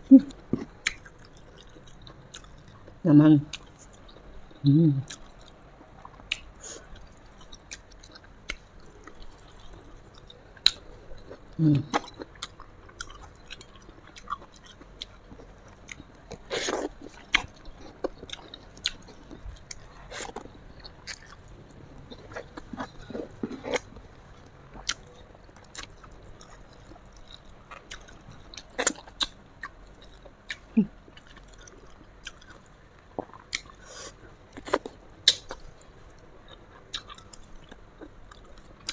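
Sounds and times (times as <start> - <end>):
person chewing crunchy food: 0.2 - 38.9.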